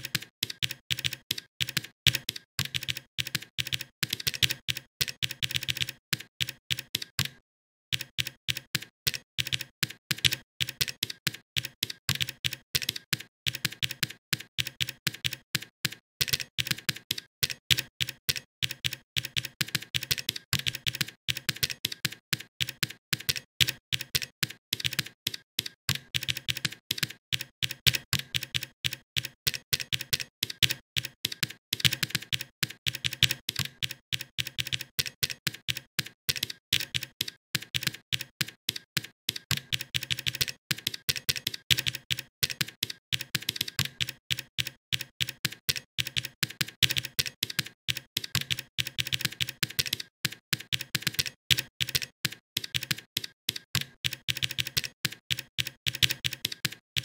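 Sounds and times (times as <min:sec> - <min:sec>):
typing on a computer keyboard: 0:00.0 - 0:57.0.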